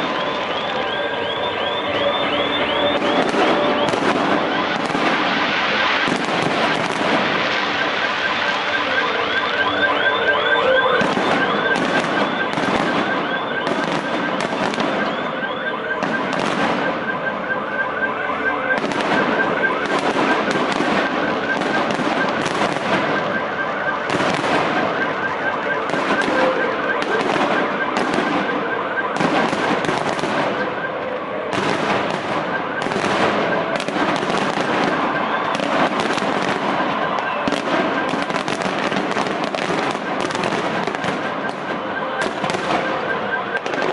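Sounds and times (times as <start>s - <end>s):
fireworks bursting: 0.0s - 43.9s
warbling siren-like tone: 0.0s - 43.9s.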